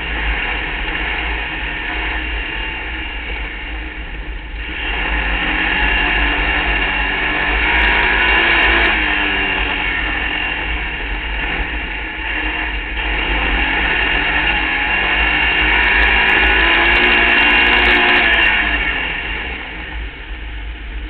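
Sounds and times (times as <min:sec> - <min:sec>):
race car engine revving high: 0:00.0 - 0:21.0.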